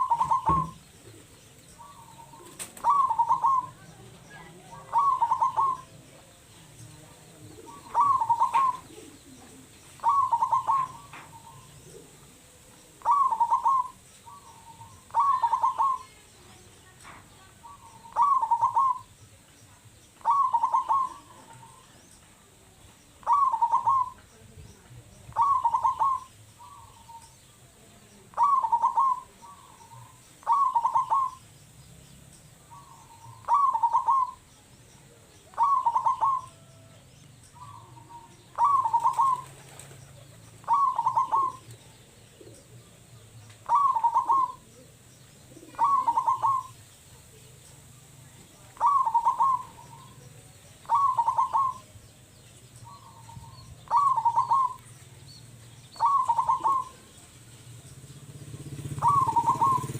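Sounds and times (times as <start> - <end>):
dove cooing song: 0.0 - 19.4, 20.1 - 59.9.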